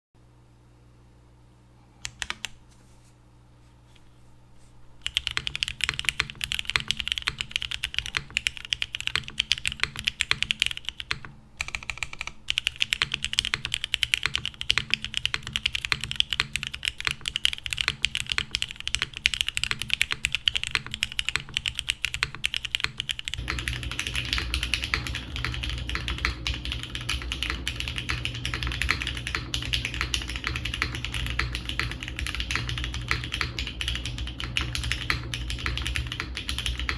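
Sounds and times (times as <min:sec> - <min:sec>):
typing on mechanical keyboard: 0:02.0 - 0:02.6, 0:05.0 - 0:36.9.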